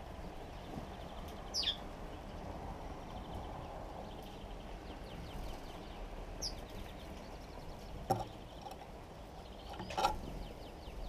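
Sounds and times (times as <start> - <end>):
outdoor background hum: 0.0 - 11.0
sparrows chirping: 0.0 - 11.0.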